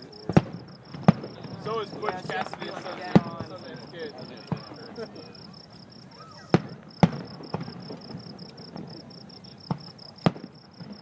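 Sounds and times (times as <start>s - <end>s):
crickets chirping: 0.0s - 11.0s
fireworks banging: 0.0s - 11.0s.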